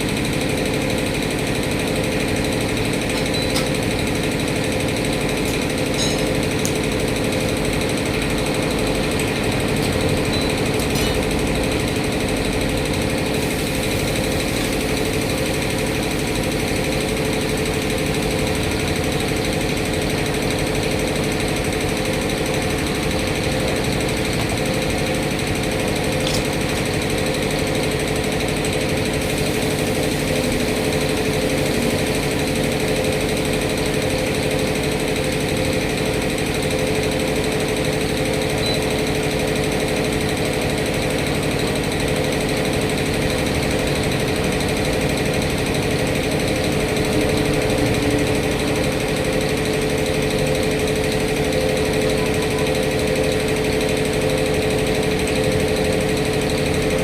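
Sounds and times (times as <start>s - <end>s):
engine running with rattling pulse: 0.0s - 57.0s.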